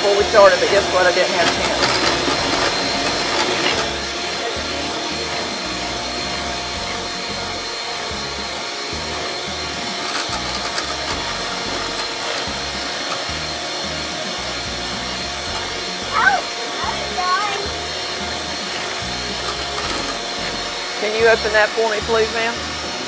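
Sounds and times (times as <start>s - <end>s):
electric mixer whining: 0.0s - 23.0s.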